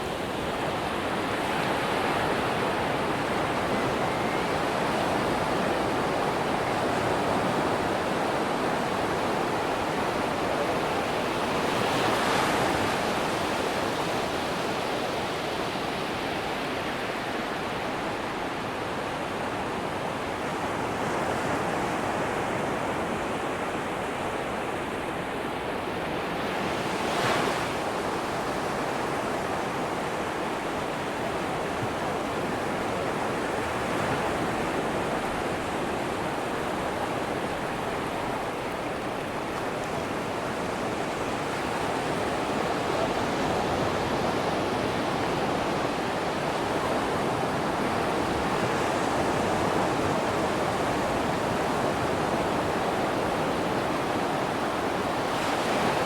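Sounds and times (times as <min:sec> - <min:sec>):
waves breaking on sandy beach: 0:00.0 - 0:56.0.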